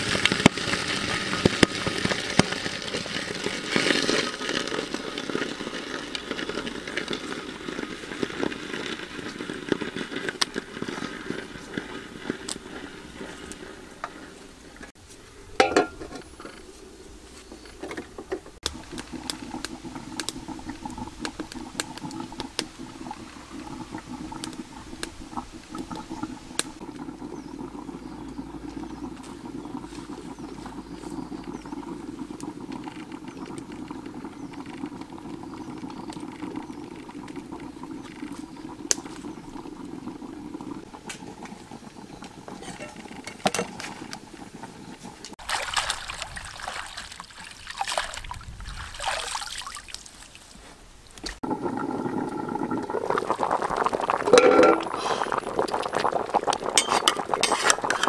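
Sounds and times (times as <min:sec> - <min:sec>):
water bubbling in wok: 0:00.0 - 0:14.9, 0:18.6 - 0:50.5, 0:51.1 - 0:58.0.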